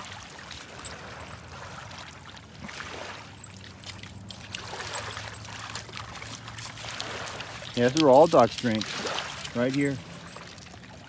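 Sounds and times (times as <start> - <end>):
river water trickling and splashing: 0.0 - 11.0.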